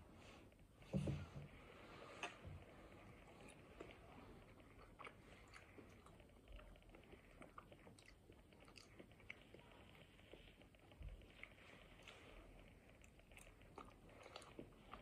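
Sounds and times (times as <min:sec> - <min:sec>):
close-up chewing: 0:02.2 - 0:15.0.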